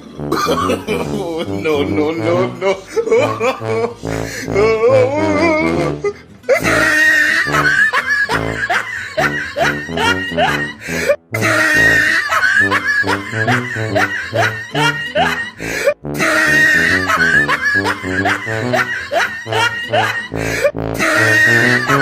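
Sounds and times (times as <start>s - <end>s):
comedic music: 0.0s - 22.0s
laughter: 0.3s - 4.3s, 6.5s - 10.8s, 11.4s - 22.0s.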